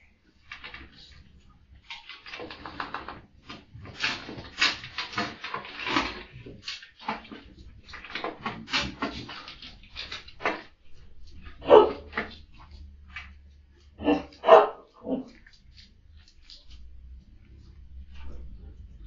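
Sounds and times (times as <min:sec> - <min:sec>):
dog making rough noises: 0:00.5 - 0:19.0.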